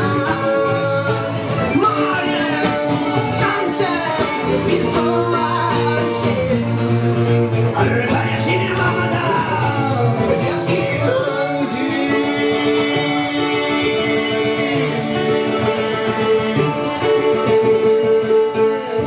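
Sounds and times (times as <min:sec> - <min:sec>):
live band with guitar: 0:00.0 - 0:19.0.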